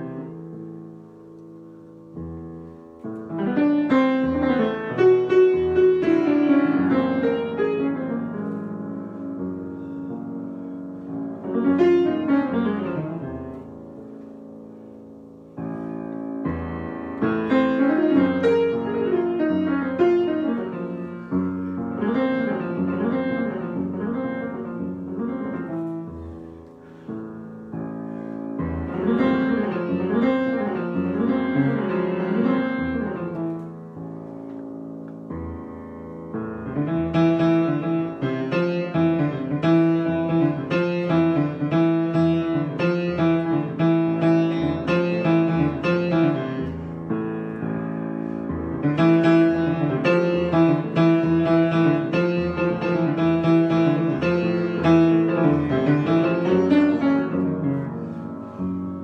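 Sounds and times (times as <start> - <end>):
solo piano improvisation: 0.0 - 59.0.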